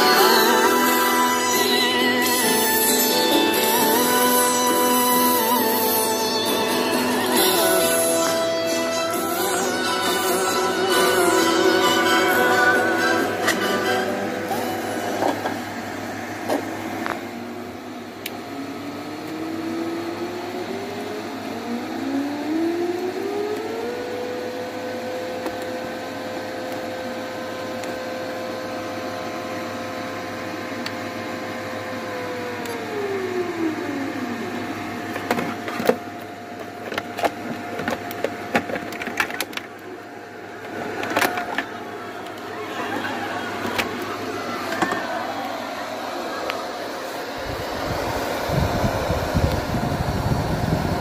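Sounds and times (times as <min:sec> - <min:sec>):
cooling fan whine: 0:00.0 - 0:51.0.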